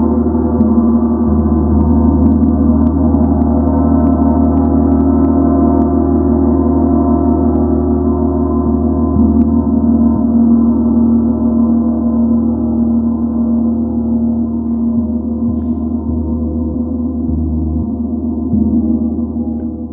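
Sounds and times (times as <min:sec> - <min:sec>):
gong ringing: 0:00.0 - 0:19.9.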